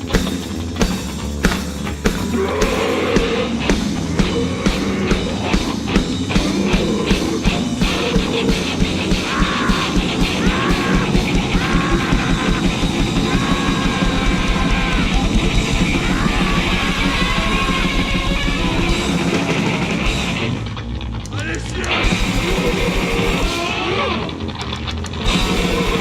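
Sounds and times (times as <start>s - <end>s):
fast drumming: 0.0s - 20.6s, 21.3s - 23.7s, 25.2s - 26.0s
distorted guitar: 0.0s - 26.0s
noisecore music: 0.0s - 26.0s
harsh yelled vocals: 2.1s - 20.1s, 21.3s - 24.4s, 25.3s - 26.0s.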